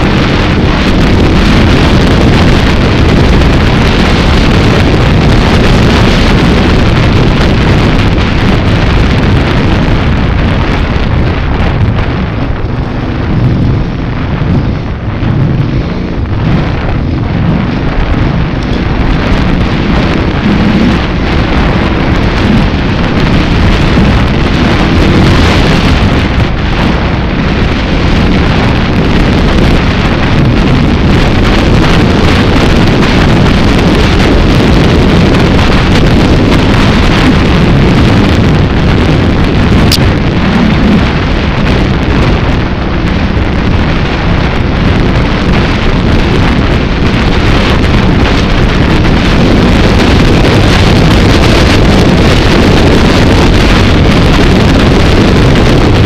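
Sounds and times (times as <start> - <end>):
vehicle engine running: 0.0 - 56.0
wind buffeting microphone: 0.0 - 56.0.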